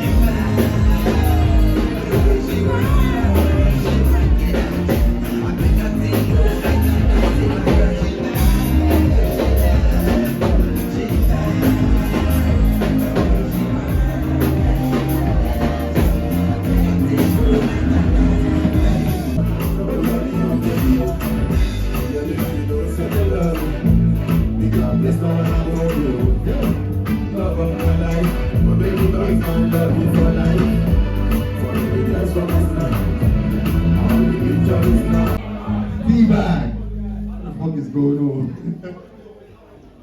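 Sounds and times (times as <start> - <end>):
loud music with drum beat: 0.0 - 35.5
person singing: 0.0 - 36.0.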